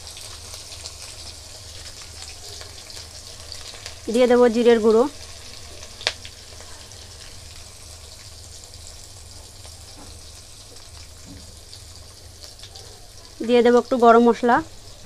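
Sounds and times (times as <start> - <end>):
spices sizzling in hot oil: 0.0 - 15.0.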